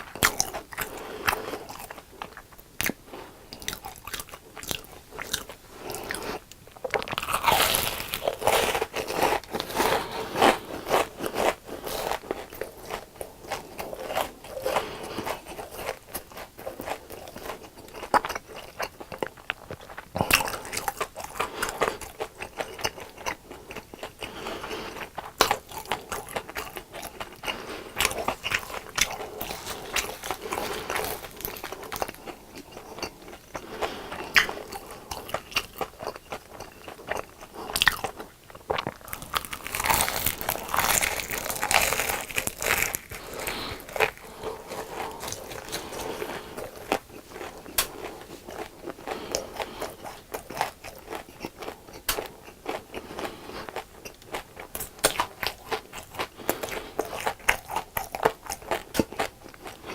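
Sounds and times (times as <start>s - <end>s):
crunching and chewing fried food: 0.0s - 59.9s.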